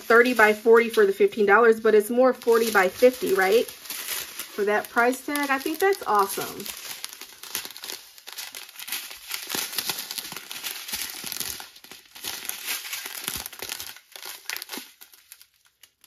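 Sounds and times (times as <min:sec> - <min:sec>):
plastic packets crinkling: 0:00.0 - 0:16.0.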